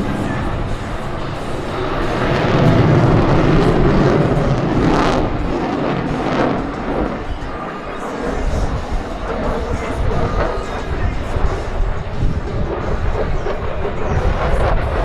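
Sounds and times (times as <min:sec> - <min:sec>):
jet engine roaring at takeoff: 0:00.0 - 0:15.0.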